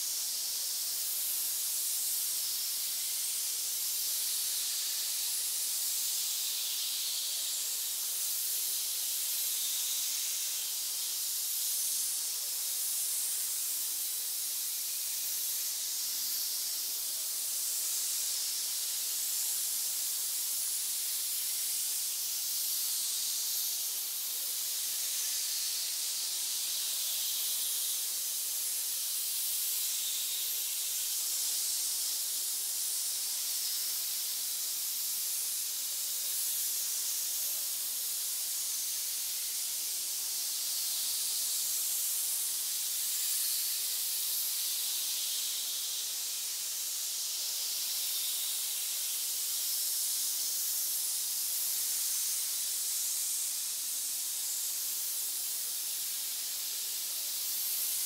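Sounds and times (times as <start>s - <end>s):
snakes hissing: 0.0s - 58.0s.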